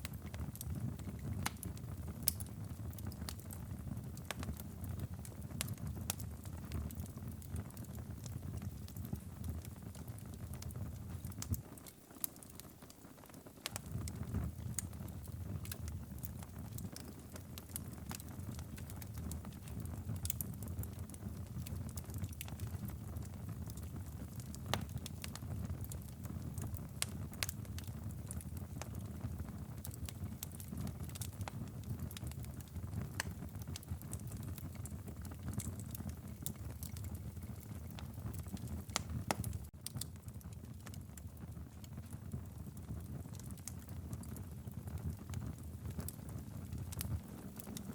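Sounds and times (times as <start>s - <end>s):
low rumble of flames: 0.0s - 47.9s
wood fire crackling and popping: 0.0s - 47.9s.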